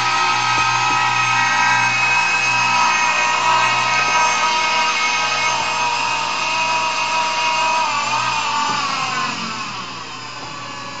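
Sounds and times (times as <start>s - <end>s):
small motor spinning propeller whine: 0.0s - 11.0s.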